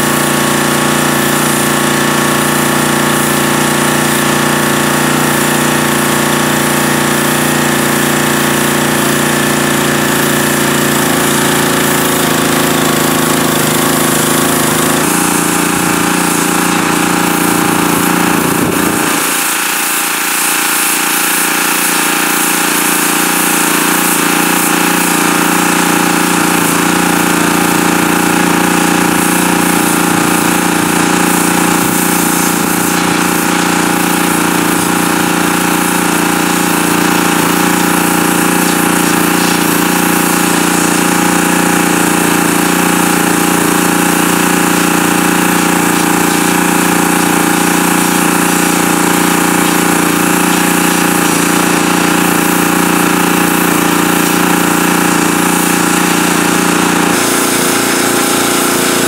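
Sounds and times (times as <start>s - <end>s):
pressure washer water jet hissing: 0.0s - 59.0s.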